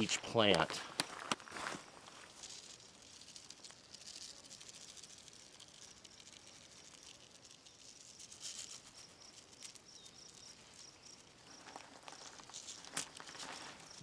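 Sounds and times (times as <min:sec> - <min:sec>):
granular fertilizer pattering: 0:00.0 - 0:14.0.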